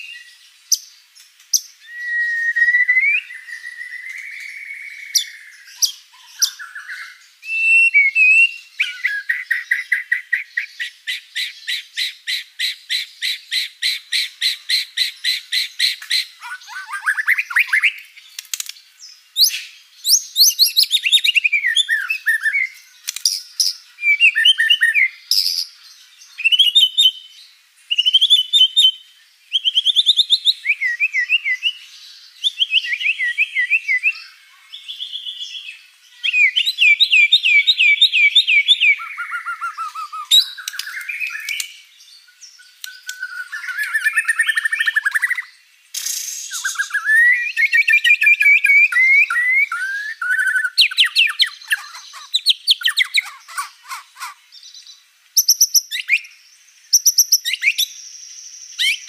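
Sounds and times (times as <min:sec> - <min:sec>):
songbird singing varied song: 0:00.0 - 0:59.0.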